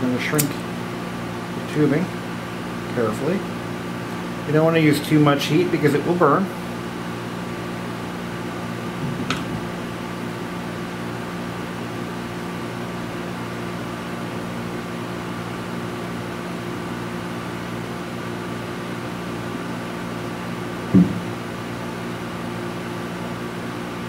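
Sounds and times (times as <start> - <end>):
electrical hum with hiss: 0.0 - 24.0.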